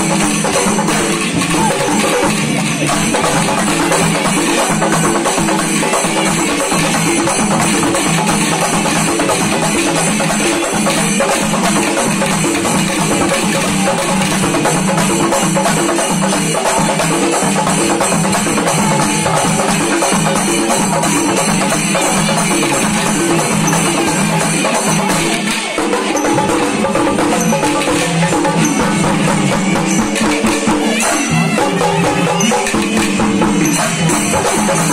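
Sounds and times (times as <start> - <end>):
percussion ensemble drumming: 0.0 - 34.9.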